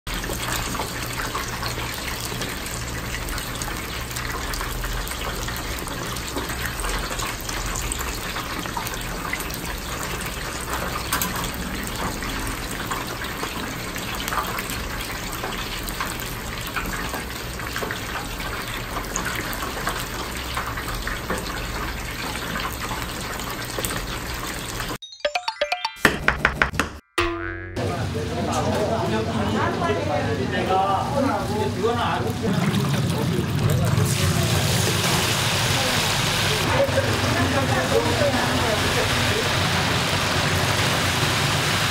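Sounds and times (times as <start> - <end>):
oil sizzling and popping: 0.1 - 25.0, 32.6 - 41.9.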